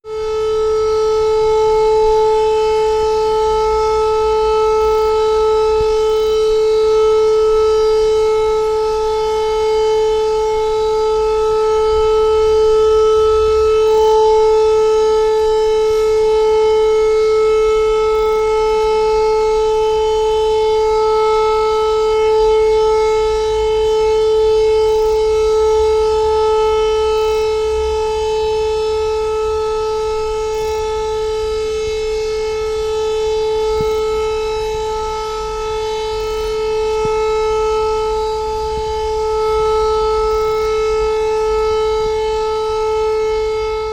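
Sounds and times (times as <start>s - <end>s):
siren steady wail: 0.0s - 43.9s.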